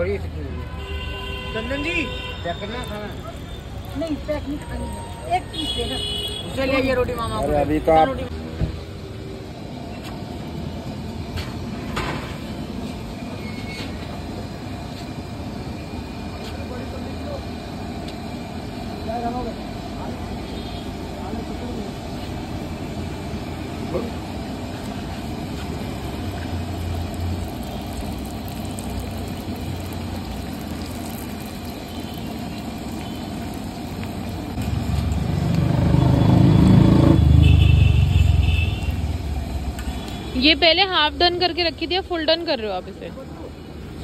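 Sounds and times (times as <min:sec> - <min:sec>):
busy street food stall noise: 0:00.0 - 0:44.0
low traffic rumble: 0:00.0 - 0:44.0.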